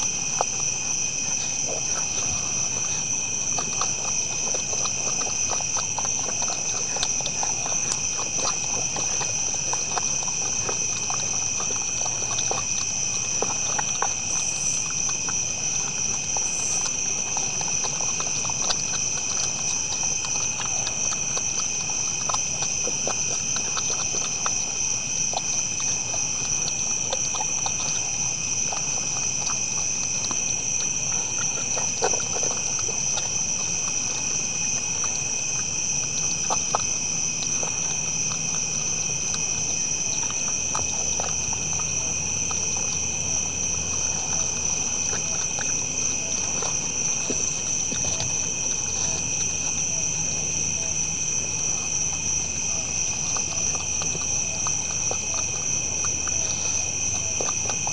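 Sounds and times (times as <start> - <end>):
deer crunching feed: 0.0 - 57.9
night insects droning: 0.0 - 57.9.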